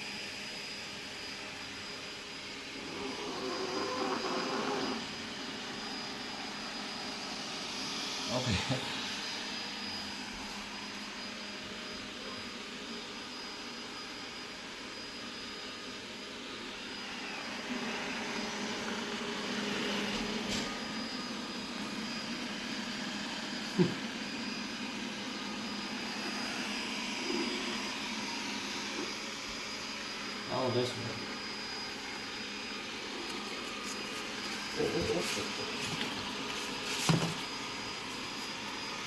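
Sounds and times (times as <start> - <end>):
robot vacuum cleaner whirring: 0.2 - 39.0.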